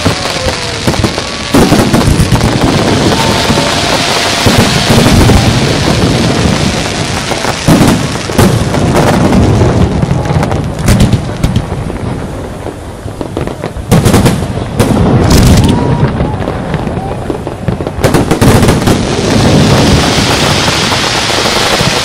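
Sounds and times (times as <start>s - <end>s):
sharp firework bangs: 0.0s - 11.9s, 13.2s - 22.0s.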